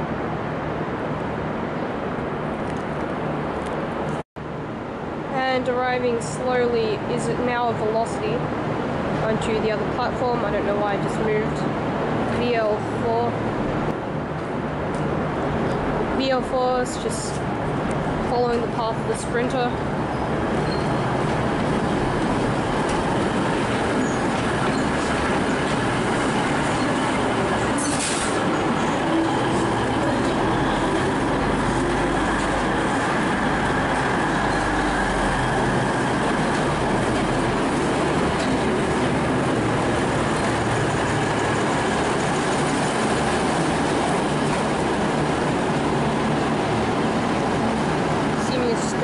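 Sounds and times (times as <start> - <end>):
diesel train engines running: 0.0 - 49.0
train wheels rumbling on rails: 5.3 - 49.0.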